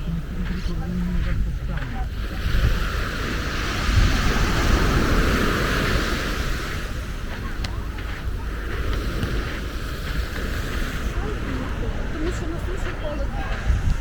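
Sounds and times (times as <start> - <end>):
wind buffeting microphone: 0.0 - 14.0
wave breaking on beach: 1.8 - 14.0.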